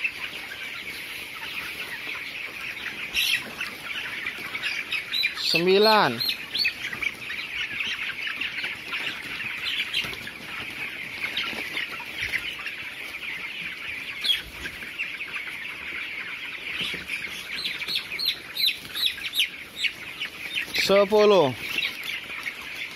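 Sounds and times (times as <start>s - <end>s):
chicks peeping and chirping: 0.0s - 22.9s.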